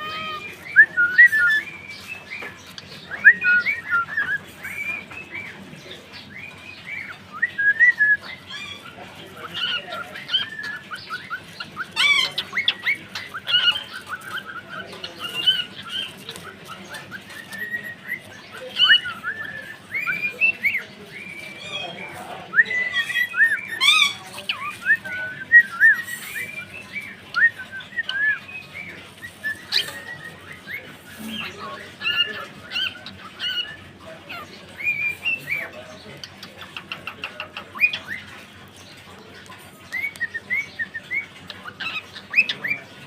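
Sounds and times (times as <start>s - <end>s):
cockatiels chirping and whistling: 0.0s - 43.0s.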